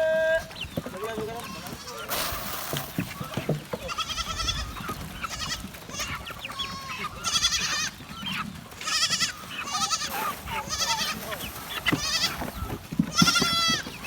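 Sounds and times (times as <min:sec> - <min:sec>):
goats bleating: 0:00.1 - 0:14.0.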